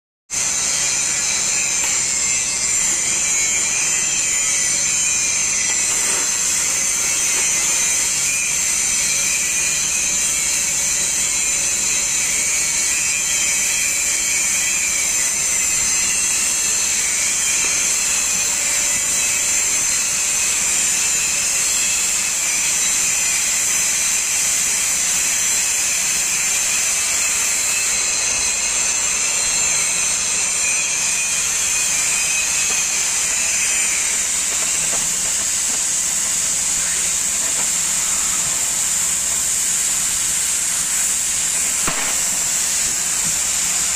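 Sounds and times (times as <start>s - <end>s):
gas cutting torch hissing: 0.3s - 43.9s.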